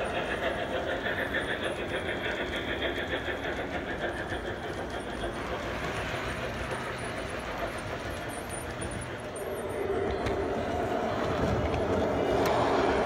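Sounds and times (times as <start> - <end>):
model train wheels rumbling on rail: 0.0 - 13.0
rhythmic wheel clatter: 0.0 - 13.0.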